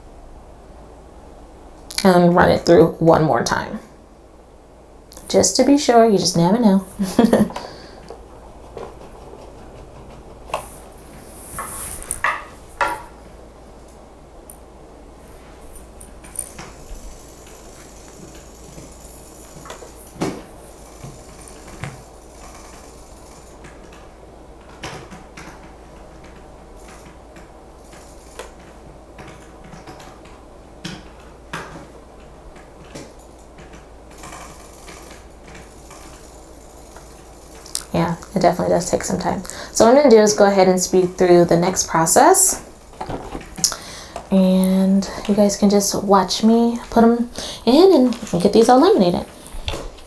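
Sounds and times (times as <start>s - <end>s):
laminator humming: 0.0s - 50.0s.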